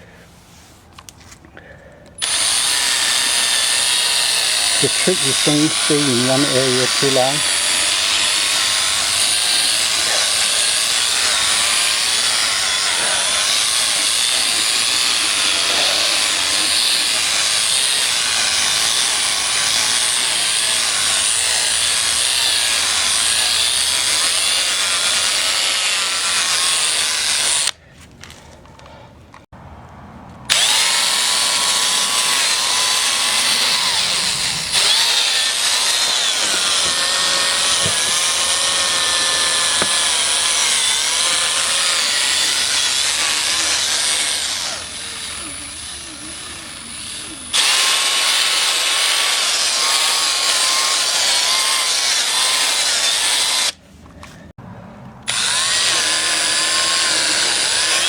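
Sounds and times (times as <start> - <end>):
electric drill motor whine: 2.2 - 27.8, 30.5 - 53.8, 55.3 - 58.0.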